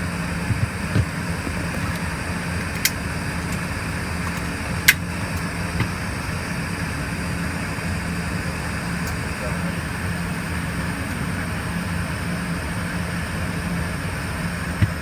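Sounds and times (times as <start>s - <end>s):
air-conditioning airflow: 0.0s - 15.0s
jet cabin hum: 0.0s - 15.0s.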